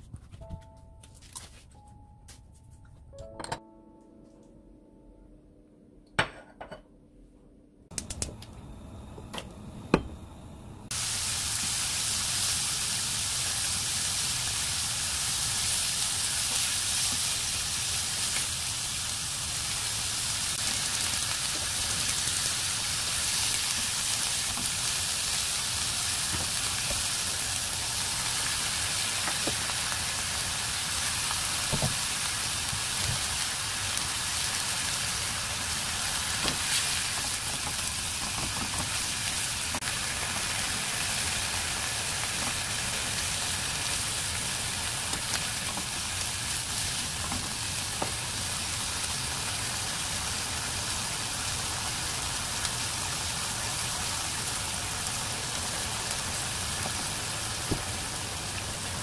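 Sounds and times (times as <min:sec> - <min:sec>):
beef sizzling in oil: 0:10.9 - 0:59.0.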